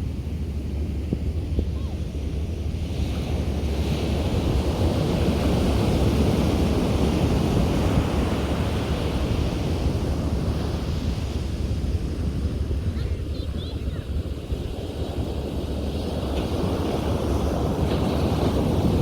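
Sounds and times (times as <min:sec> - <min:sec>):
wind rumble on microphone: 0:00.0 - 0:19.0
sea surf breaking on beach: 0:01.8 - 0:19.0.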